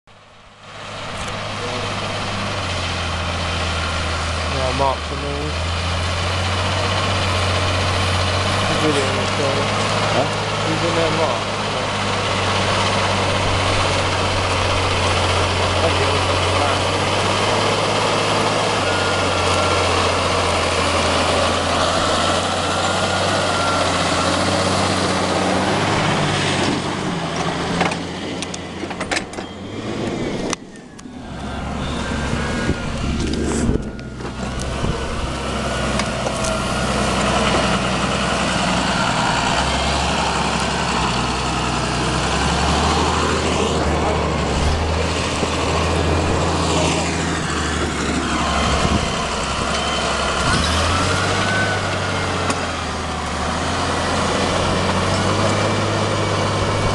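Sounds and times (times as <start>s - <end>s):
tractor diesel engine under load: 0.0s - 56.9s.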